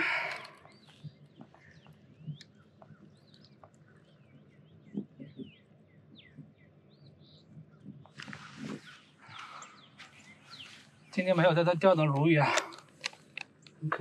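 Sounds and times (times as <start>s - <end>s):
small birds whistling: 0.0s - 11.4s.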